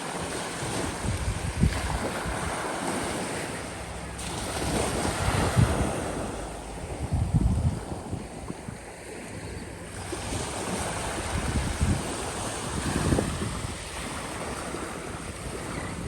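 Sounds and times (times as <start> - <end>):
waves washing onto beach: 0.0 - 16.0
wind gusting on microphone: 0.0 - 16.0.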